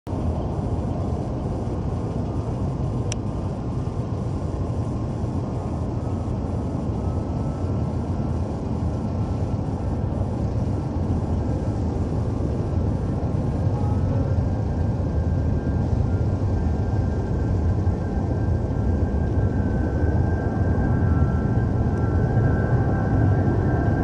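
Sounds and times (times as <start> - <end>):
faint engine whine: 0.1 - 24.0
jet aircraft rumble: 0.1 - 24.0.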